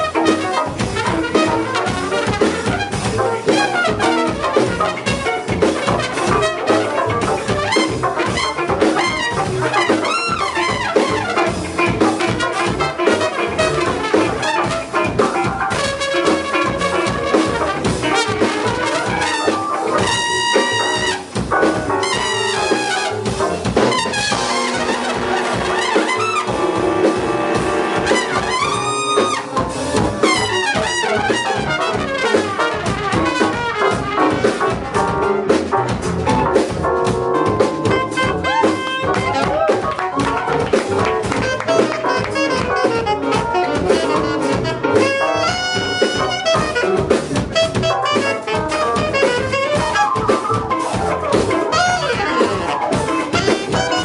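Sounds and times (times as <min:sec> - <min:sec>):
drum beat: 0:00.0 - 0:54.0
ensemble playing busy music: 0:00.0 - 0:54.0.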